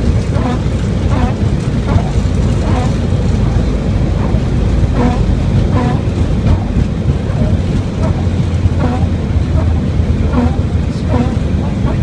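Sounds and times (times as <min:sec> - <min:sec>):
aircraft cockpit rumble: 0:00.0 - 0:12.0
rain noise: 0:00.0 - 0:12.0.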